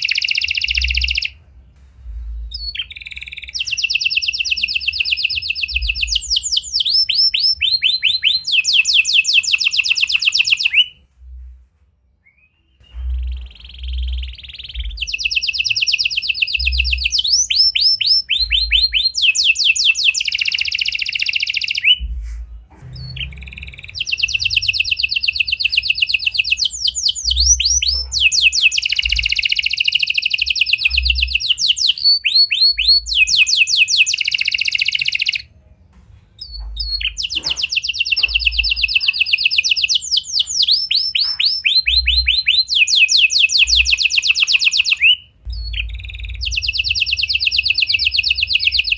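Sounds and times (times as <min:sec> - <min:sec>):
canary singing trills: 0:00.0 - 0:01.4, 0:02.1 - 0:11.0, 0:12.2 - 0:35.5, 0:36.4 - 0:48.9.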